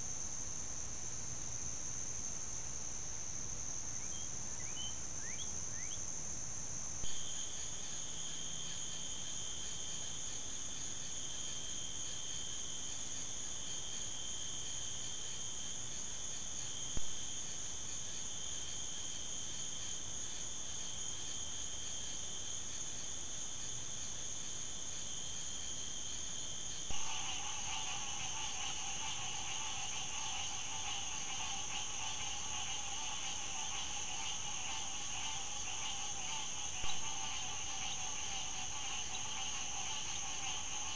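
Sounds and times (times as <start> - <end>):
background hiss: 0.0 - 40.9
insects trilling: 0.0 - 40.9.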